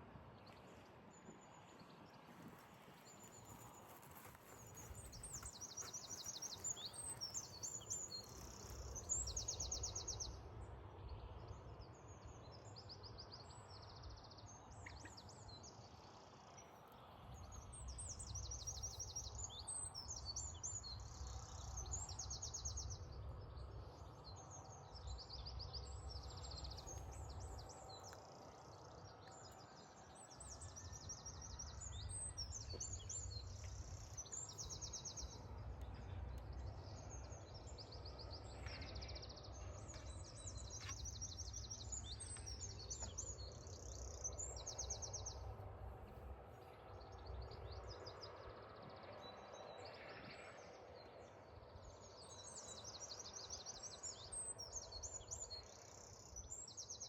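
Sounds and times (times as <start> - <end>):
songbirds singing trills: 1.4 - 10.4, 11.8 - 57.0.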